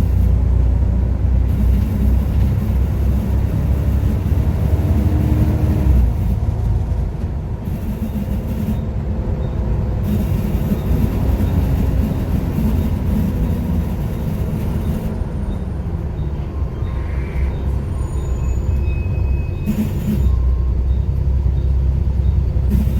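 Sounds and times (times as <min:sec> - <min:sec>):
bus engine rumbling: 0:00.0 - 0:22.9.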